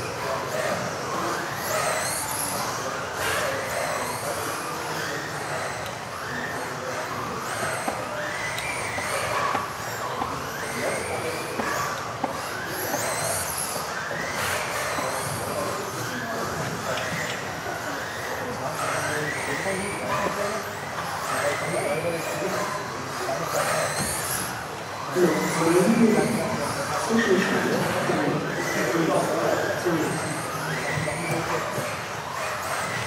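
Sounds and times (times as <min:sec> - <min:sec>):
rc car motors whining: 0:00.0 - 0:33.0.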